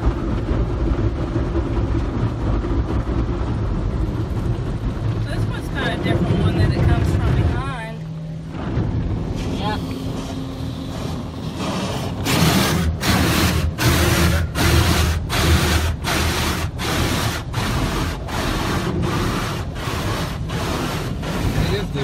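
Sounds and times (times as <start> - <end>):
water beating against car body: 0.0 - 22.0.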